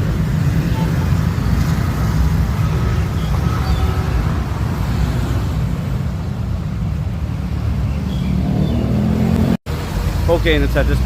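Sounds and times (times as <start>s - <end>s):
passing cars and motorbikes: 0.0s - 11.0s.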